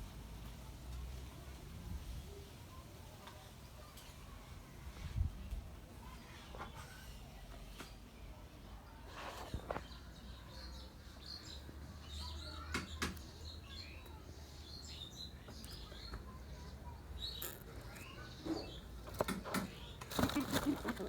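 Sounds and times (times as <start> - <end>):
small birds chirping: 0.4 - 21.0.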